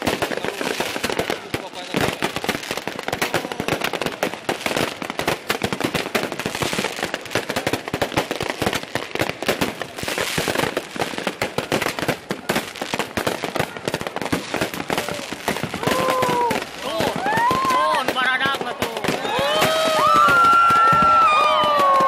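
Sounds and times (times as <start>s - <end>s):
fireworks cracking and banging: 0.0s - 22.0s.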